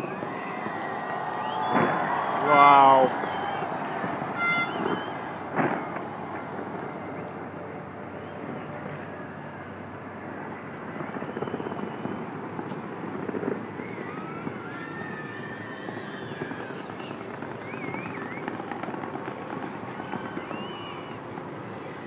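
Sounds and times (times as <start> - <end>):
fireworks popping: 0.0 - 9.1, 9.8 - 22.0
fireworks crackling: 0.0 - 22.0
fireworks whistling: 0.0 - 22.0.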